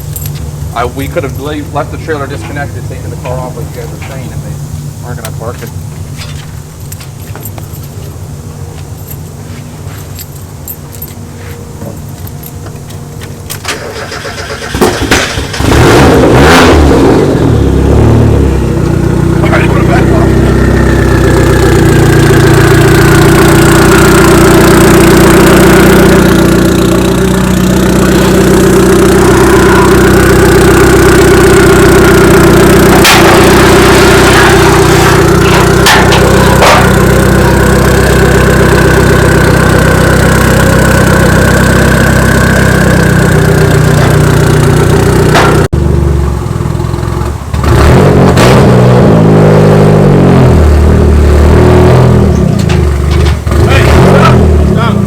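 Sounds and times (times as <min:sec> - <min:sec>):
car engine idling: 0:00.0 - 0:47.9, 0:50.1 - 0:55.0.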